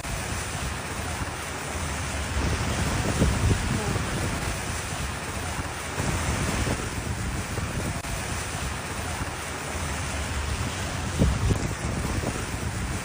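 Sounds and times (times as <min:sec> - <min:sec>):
heavy rain rushing: 0:00.0 - 0:13.0
wind rumbling on microphone: 0:00.0 - 0:13.0.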